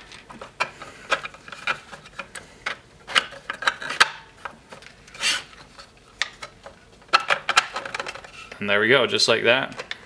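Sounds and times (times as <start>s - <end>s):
plastic parts clicking and knocking: 0.0s - 5.0s, 5.6s - 8.4s, 9.6s - 10.0s.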